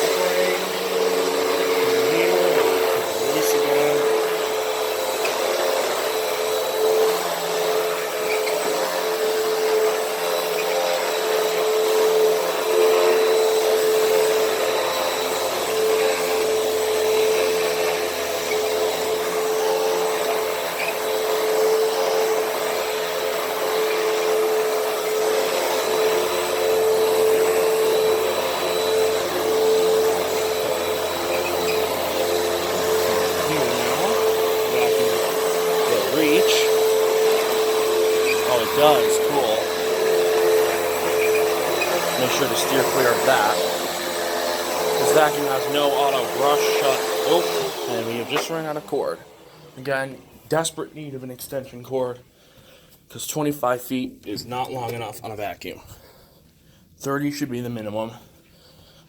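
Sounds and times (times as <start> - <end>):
vacuum cleaner motor whine: 0.0 - 50.7.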